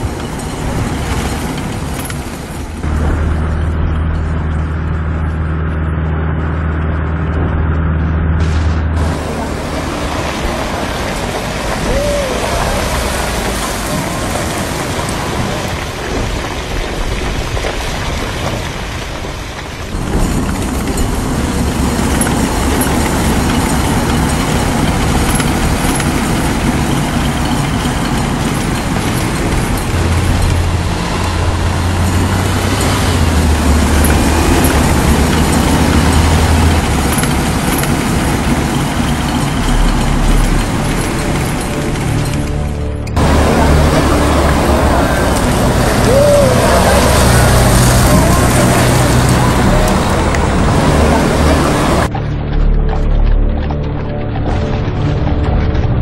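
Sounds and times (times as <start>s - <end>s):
heavy vehicle engines running: 0.0s - 56.0s.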